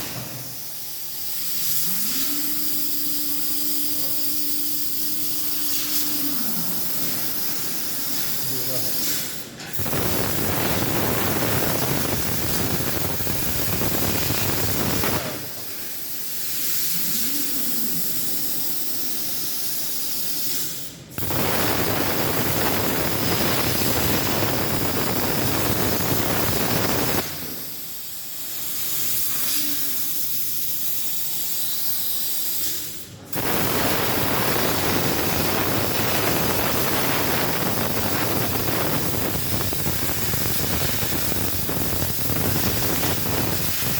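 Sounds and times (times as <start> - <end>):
plasma cutter torch hissing: 0.0 - 43.9.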